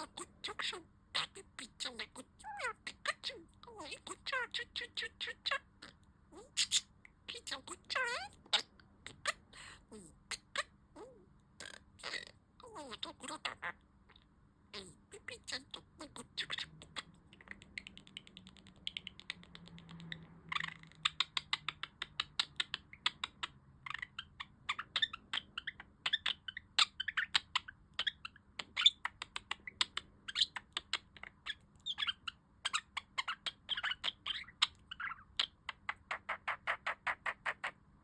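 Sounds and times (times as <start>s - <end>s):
budgerigar warbling: 0.0s - 13.8s, 14.8s - 17.8s, 20.5s - 37.8s.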